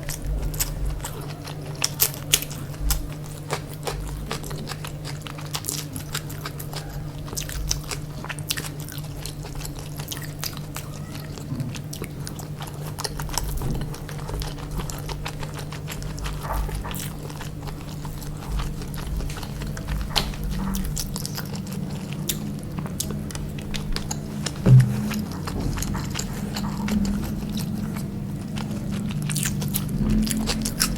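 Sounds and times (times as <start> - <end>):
close chewing and mouth smacks: 0.0 - 30.9.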